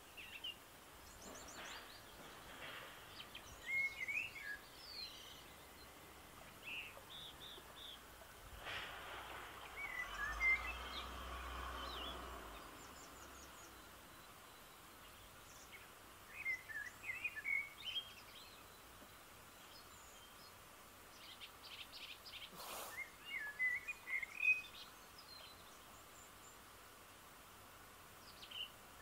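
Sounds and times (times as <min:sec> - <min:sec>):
bird singing: 0:00.0 - 0:08.4, 0:09.5 - 0:26.7, 0:28.2 - 0:28.8
faint outdoor hiss: 0:00.0 - 0:29.0.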